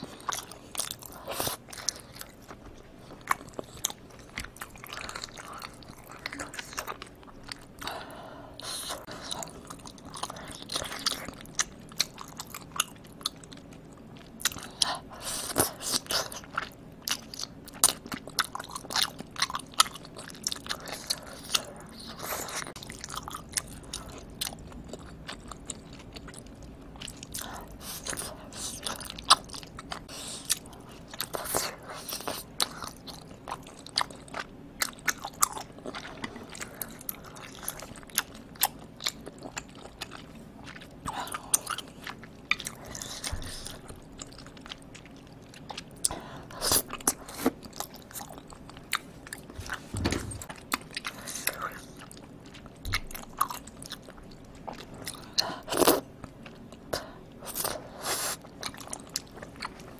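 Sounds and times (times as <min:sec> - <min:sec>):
wet chewing and mouth smacks: 0:00.0 - 0:07.9, 0:08.8 - 0:59.9.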